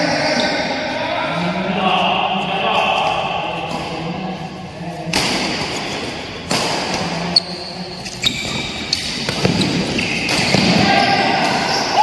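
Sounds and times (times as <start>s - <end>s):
indoor hall background: 0.0s - 12.0s.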